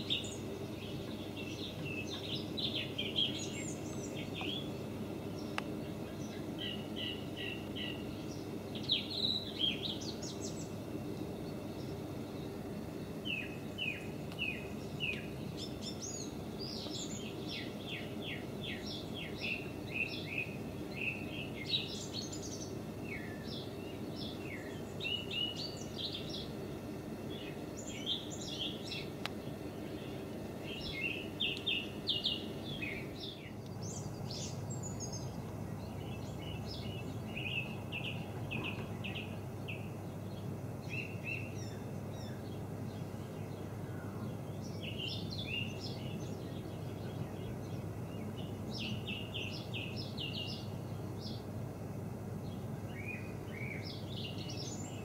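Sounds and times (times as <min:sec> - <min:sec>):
birds chirping: 0:00.0 - 0:51.5, 0:52.4 - 0:55.0
low background noise: 0:00.0 - 0:55.0.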